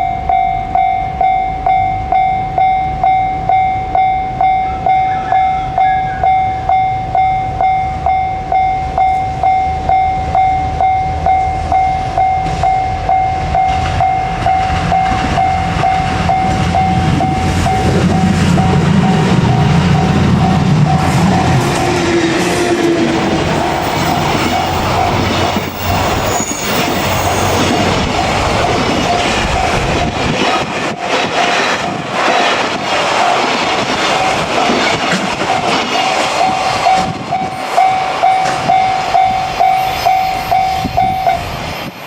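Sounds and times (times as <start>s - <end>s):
level-crossing warning bell: 0.0s - 32.6s, 33.2s - 42.0s
train rumble: 0.0s - 42.0s.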